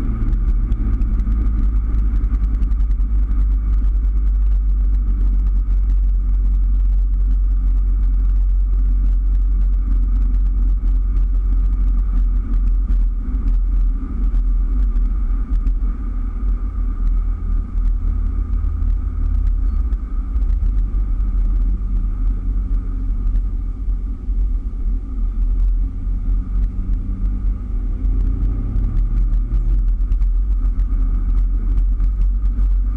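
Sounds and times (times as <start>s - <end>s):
car engine hum: 0.0s - 32.9s
road noise rumble: 0.0s - 32.9s.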